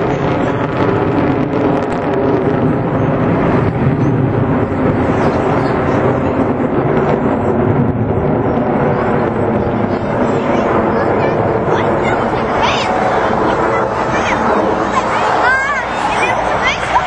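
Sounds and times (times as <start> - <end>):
jet engines rumbling overhead: 0.0 - 17.0.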